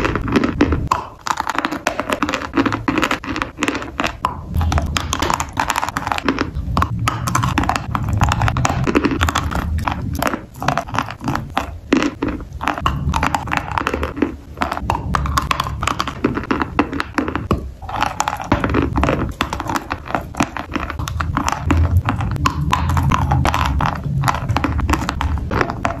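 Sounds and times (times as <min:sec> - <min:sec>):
chalk crunching between teeth: 0:00.0 - 0:26.0
wet pasty chewing: 0:00.0 - 0:26.0.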